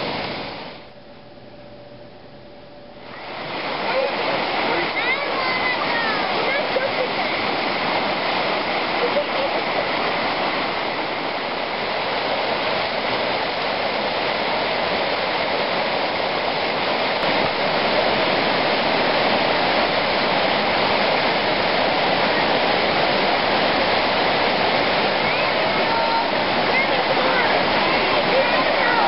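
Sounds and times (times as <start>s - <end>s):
river cascading over rocks: 0.0s - 0.9s, 3.0s - 29.0s.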